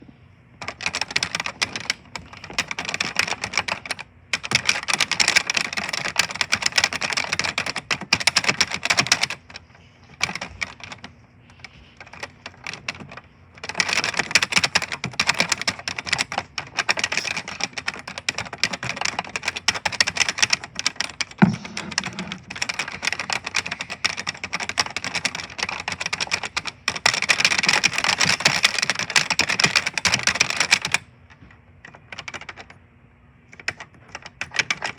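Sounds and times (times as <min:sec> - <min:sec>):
computer keyboard typing: 0:00.6 - 0:32.8, 0:33.5 - 0:34.9.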